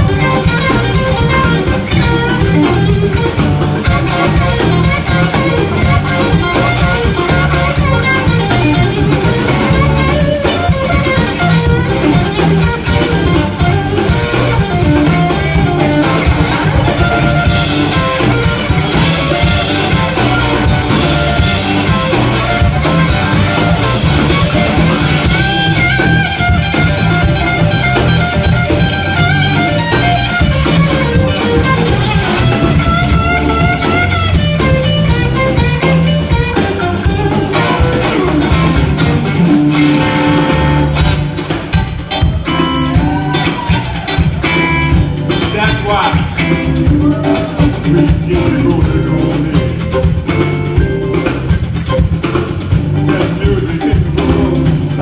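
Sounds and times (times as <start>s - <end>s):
live blues band playing: 0.0s - 55.0s.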